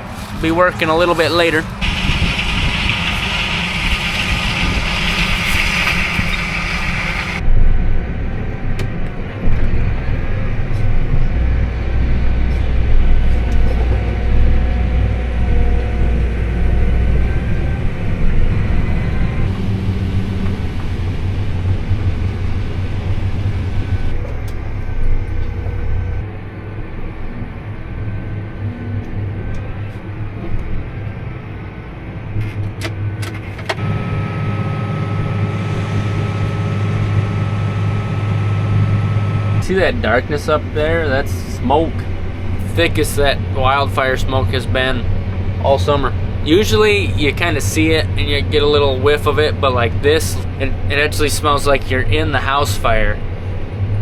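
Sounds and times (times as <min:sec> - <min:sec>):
heavy farm machinery engines: 0:00.0 - 0:54.0.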